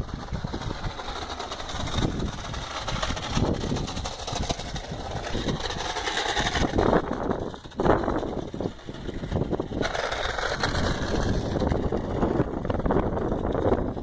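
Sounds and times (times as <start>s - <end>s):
low rumble: 0.0s - 14.0s
model car motor whining: 0.0s - 14.0s.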